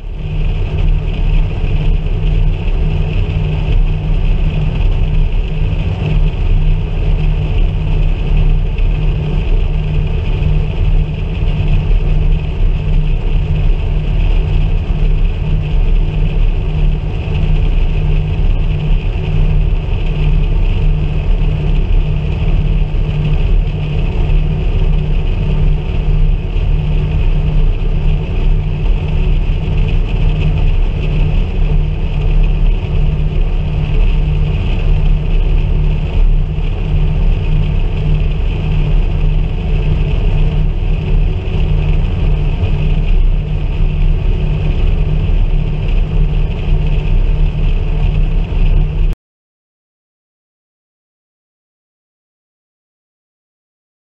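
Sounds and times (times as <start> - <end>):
aircraft engines and propellers: 0.0 - 49.2.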